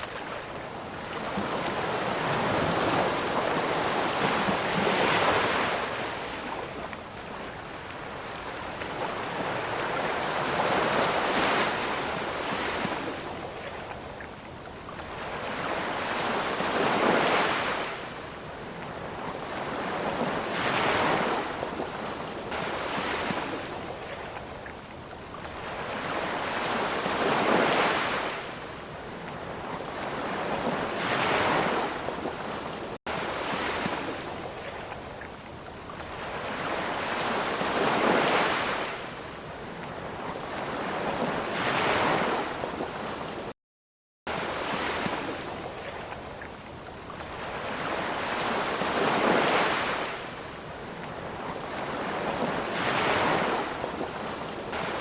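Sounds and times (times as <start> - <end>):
ocean waves breaking on shore: 0.0 - 43.6, 44.3 - 55.0.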